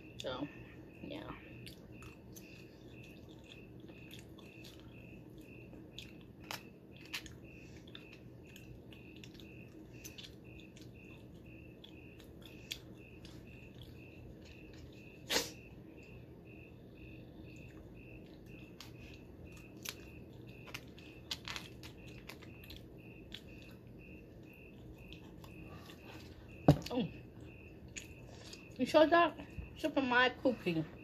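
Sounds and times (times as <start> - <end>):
quiet chewing: 1.4 - 16.2, 16.8 - 29.6.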